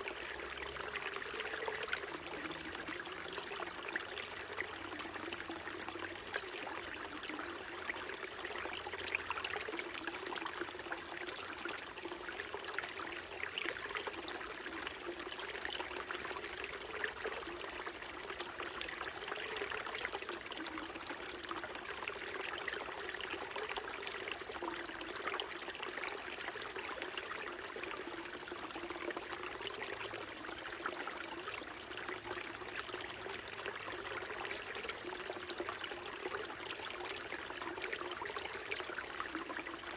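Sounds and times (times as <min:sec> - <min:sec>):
brook flowing water: 0:00.0 - 0:39.9
low gurgling water: 0:00.0 - 0:39.9.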